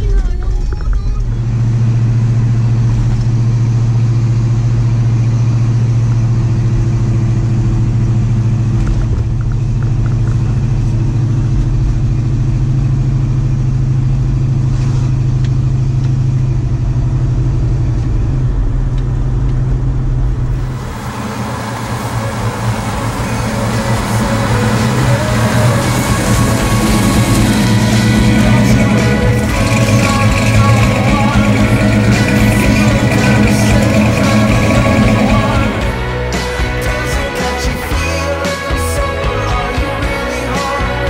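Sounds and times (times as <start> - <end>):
outdoor ambience: 0.0 - 37.2
car engine cruising: 0.0 - 41.0
road noise: 0.0 - 41.0.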